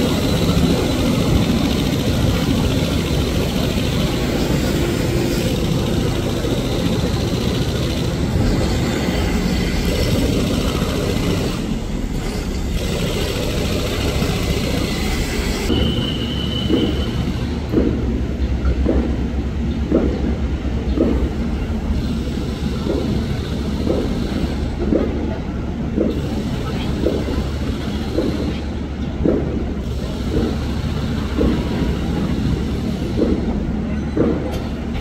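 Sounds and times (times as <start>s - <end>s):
rhythmic pulsing: 0.0s - 35.0s
train equipment low rumble: 0.0s - 35.0s.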